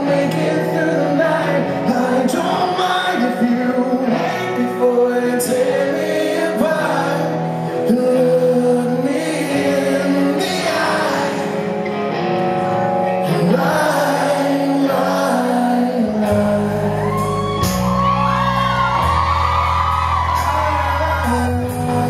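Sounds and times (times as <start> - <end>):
live rock band playing: 0.0 - 22.0
male lead singer: 0.0 - 22.0.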